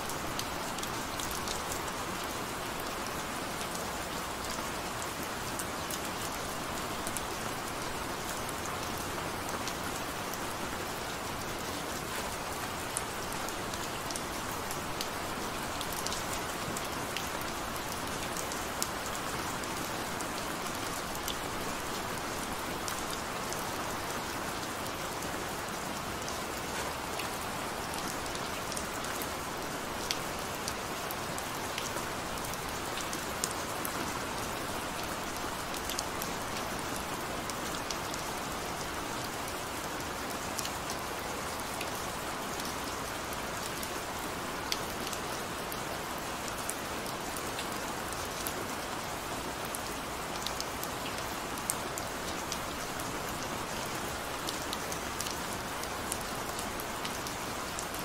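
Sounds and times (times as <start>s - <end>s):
gentle rain hissing: 0.0s - 58.0s.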